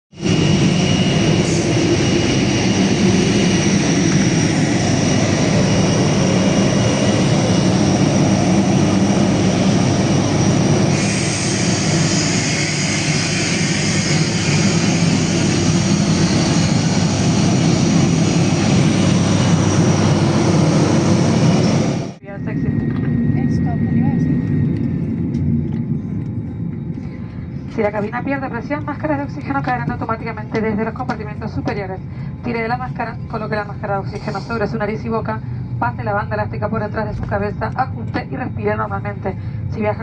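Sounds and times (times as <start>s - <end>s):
jet engines heard from cabin: 0.1s - 40.0s.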